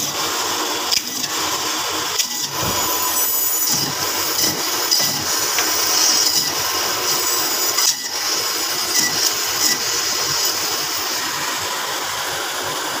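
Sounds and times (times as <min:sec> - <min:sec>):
band saw cutting meat: 0:00.0 - 0:11.8.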